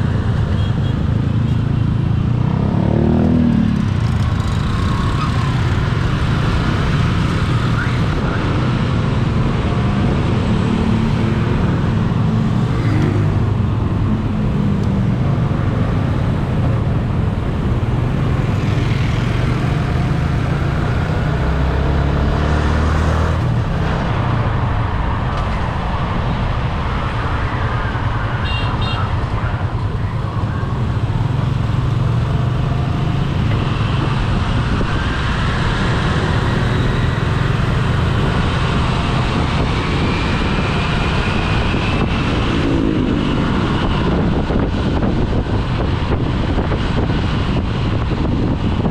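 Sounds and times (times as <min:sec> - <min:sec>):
road noise: 0:00.0 - 0:48.9
vehicle engine drone: 0:00.0 - 0:48.9.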